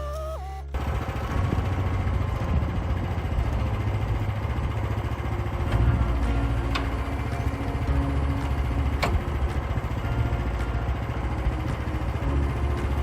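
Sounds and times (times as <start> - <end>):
background music: 0.0 - 13.0
engine running with low pulsing: 0.0 - 13.0.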